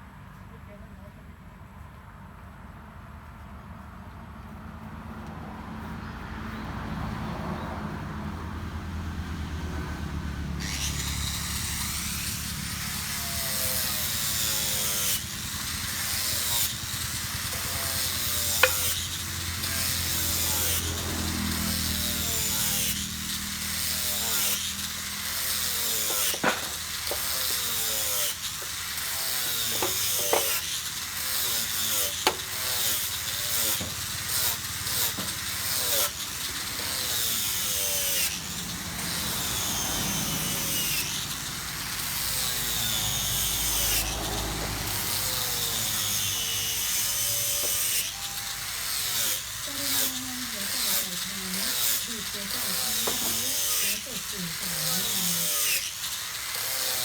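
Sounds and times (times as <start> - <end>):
hiss of wood cutting: 10.4 - 57.0
power tool motor hum: 10.4 - 57.0.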